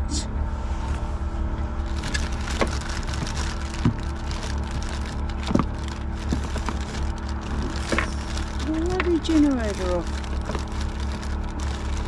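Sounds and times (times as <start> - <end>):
generator engine humming: 0.0 - 12.0.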